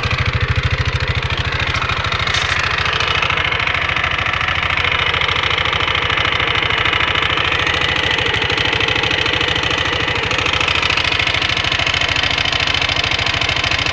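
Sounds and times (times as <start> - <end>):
scooter engine idling: 0.0 - 13.9.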